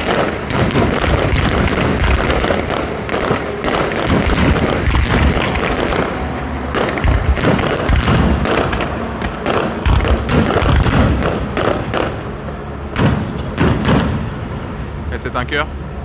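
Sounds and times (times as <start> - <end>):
deep fireworks booms: 0.0 - 12.3, 13.0 - 14.8
fireworks bangs and crackles: 0.0 - 14.4.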